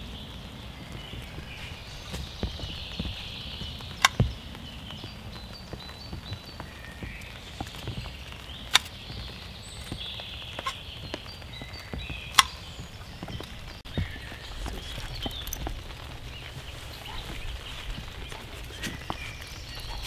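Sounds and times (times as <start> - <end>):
birds singing: 0.0 - 20.0
rain falling: 0.0 - 20.0.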